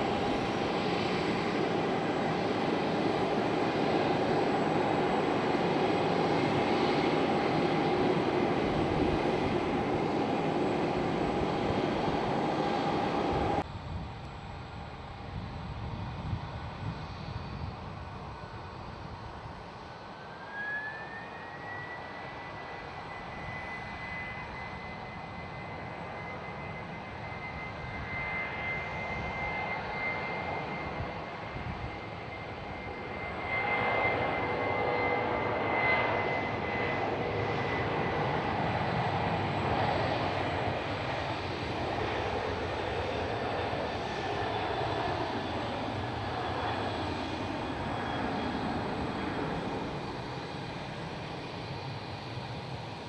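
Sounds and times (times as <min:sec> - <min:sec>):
jet engine whine: 0:00.0 - 0:53.0.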